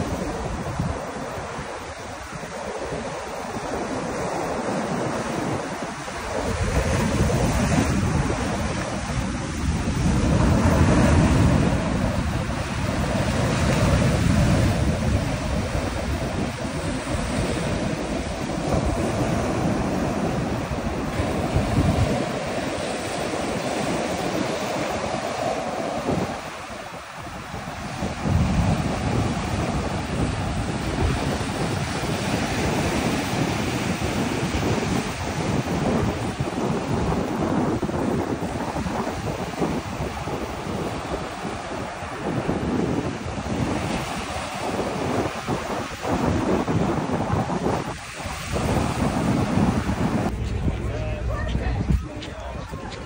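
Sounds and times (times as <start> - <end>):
ocean surf breaking on shore: 0.0 - 53.0
wind buffeting the microphone: 0.0 - 53.0.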